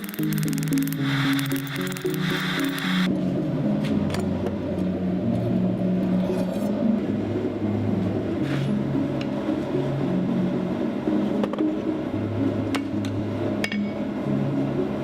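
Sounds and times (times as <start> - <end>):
low melody background music: 0.0 - 15.0.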